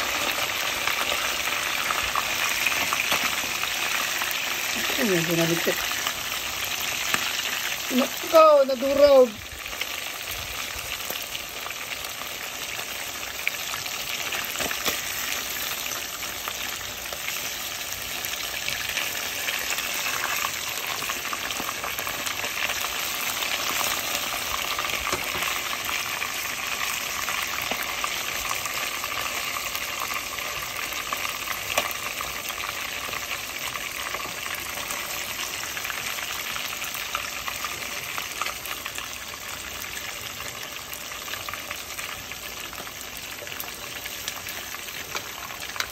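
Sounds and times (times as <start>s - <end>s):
sharp clicks of frying oil: 0.0s - 4.8s, 5.7s - 8.0s, 9.4s - 45.9s
fish deep-frying in hot oil: 0.0s - 45.9s.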